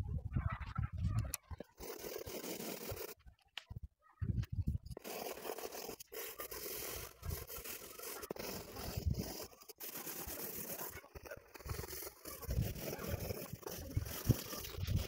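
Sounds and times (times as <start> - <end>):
pencil scratching on paper: 1.1 - 3.2, 4.9 - 15.0.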